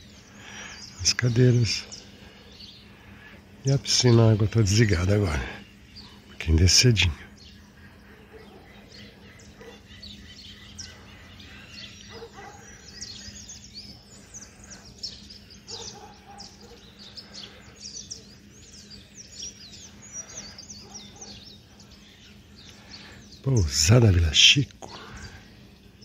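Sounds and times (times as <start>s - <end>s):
birds chirping and singing: 0.0s - 26.0s
faint low hum: 0.0s - 26.0s.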